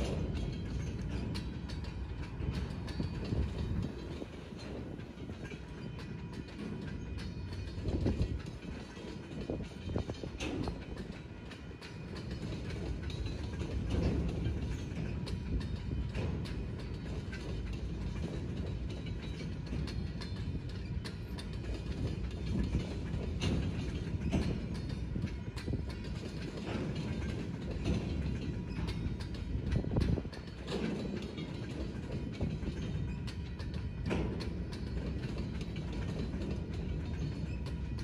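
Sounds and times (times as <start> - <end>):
clanks and clicks: 0.0 - 38.0
train wheels rumbling on rail: 0.0 - 38.0.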